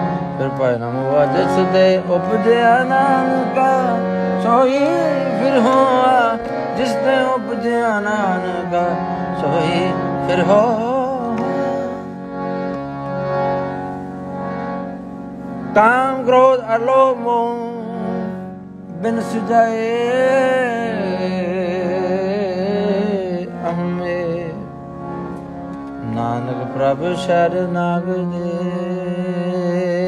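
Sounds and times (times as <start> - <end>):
harmonium melody over drone: 0.0 - 30.0.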